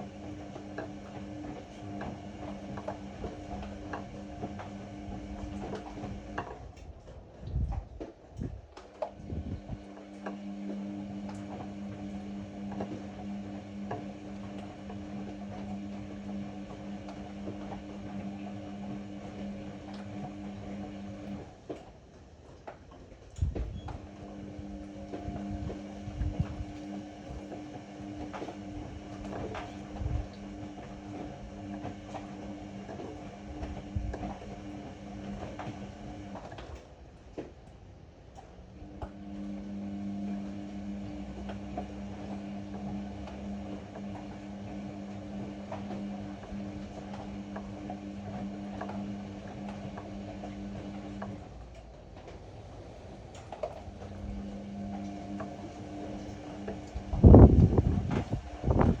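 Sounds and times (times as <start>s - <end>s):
washer-dryer motor hum: 0.0s - 59.0s.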